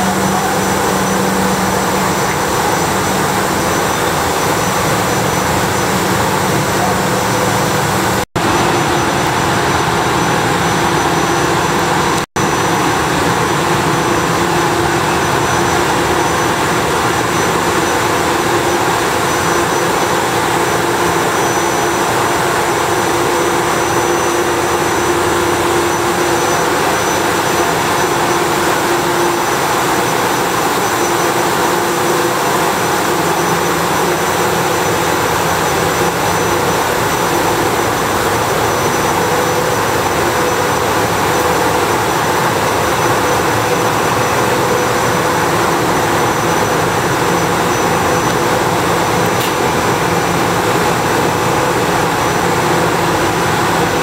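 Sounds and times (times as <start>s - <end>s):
high whine: 0.0s - 54.0s
railcar equipment hum and rush: 0.0s - 54.0s.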